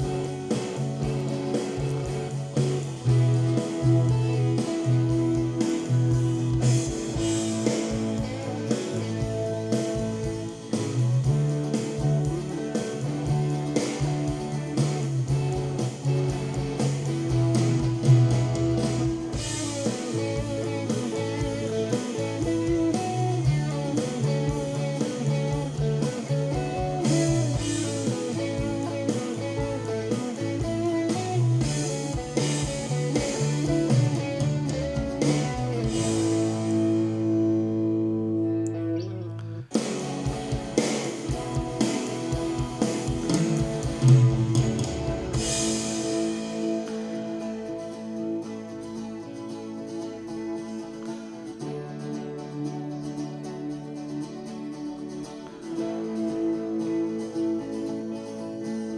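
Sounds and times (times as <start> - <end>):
blues-rock band playing: 0.0 - 58.9.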